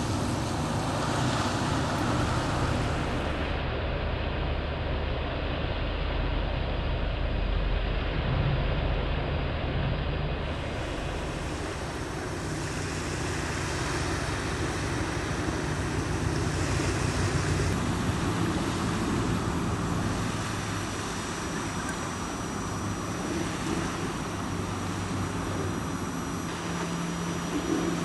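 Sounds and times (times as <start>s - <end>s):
low engine hum: 0.0s - 28.0s
wind rumbling on microphone: 0.0s - 28.0s.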